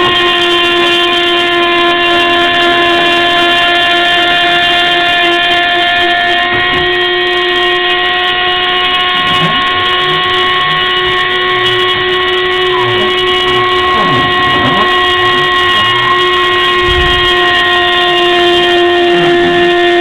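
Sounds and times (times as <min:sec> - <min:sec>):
low shifting tones: 0:00.0 - 0:20.0
machine high-pitched whine: 0:00.0 - 0:20.0.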